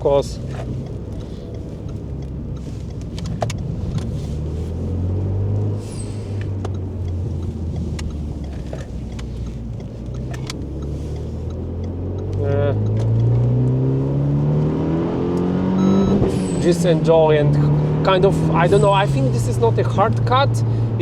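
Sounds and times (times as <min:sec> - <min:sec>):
car engine under load: 0:00.0 - 0:21.0.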